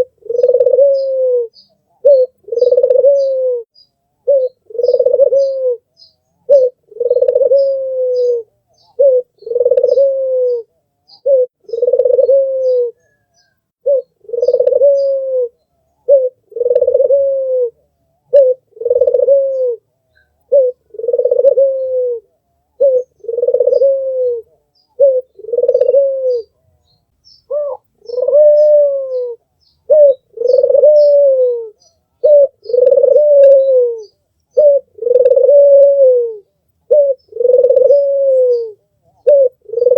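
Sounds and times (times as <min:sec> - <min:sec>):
dove cooing: 0:00.0 - 0:26.9, 0:27.5 - 0:39.9.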